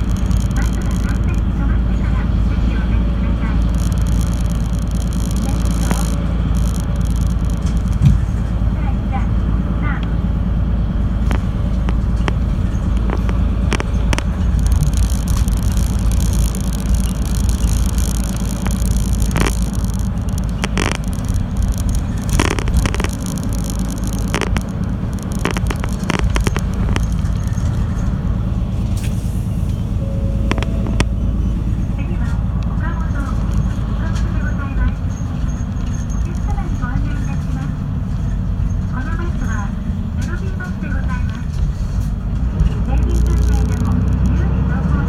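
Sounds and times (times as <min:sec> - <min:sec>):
bus engine and road rumble: 0:00.0 - 0:45.0.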